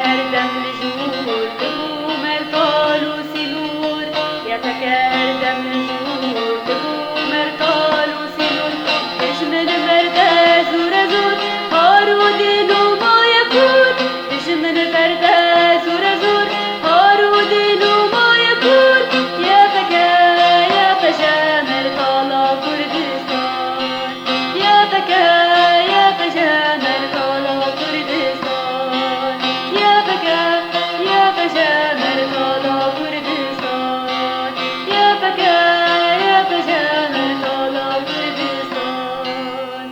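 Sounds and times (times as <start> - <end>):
folk song melody: 0.0 - 39.9
instrumental middle eastern-style music: 0.0 - 39.9.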